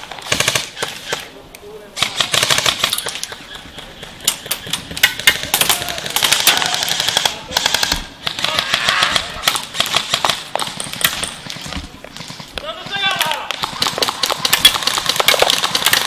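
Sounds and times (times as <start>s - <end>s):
airsoft rifles firing bursts: 0.0s - 1.3s, 2.0s - 16.0s.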